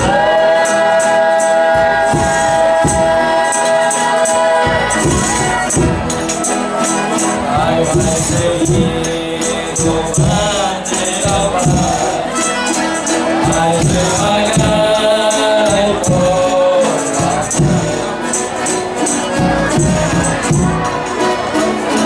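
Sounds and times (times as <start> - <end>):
group singing in chorus: 0.0 - 22.0
tambourines and drum beat: 0.0 - 22.0.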